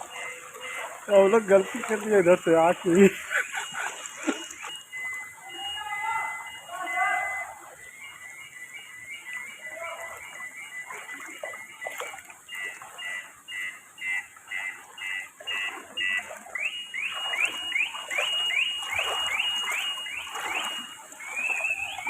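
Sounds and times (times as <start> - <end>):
electronic alarm tones: 0.0 - 22.0.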